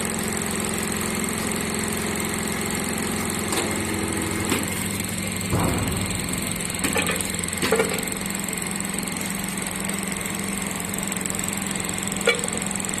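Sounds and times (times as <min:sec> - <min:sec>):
winding machine humming and whining: 0:00.0 - 0:13.0.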